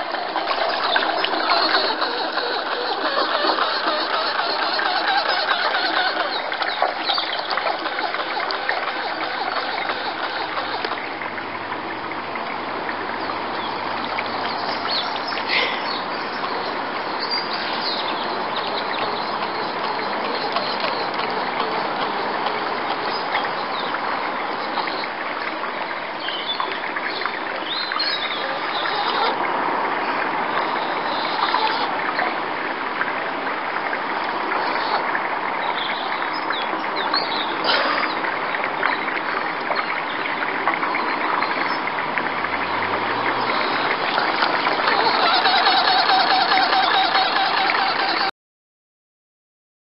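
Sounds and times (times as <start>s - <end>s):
outdoor background noise: 0.0s - 48.3s.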